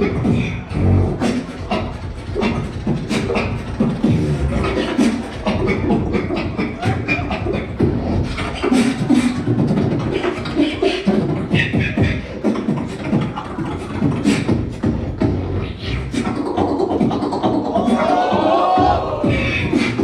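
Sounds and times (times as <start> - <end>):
person beatboxing: 0.0 - 20.0.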